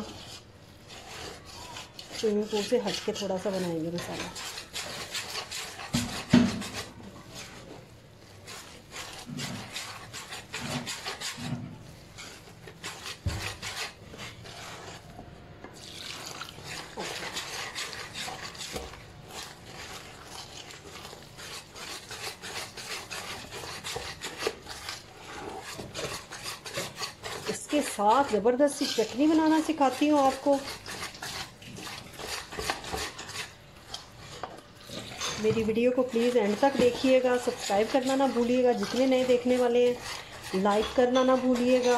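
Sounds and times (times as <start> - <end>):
whisk scraping metal bowl: 0.0 - 41.9.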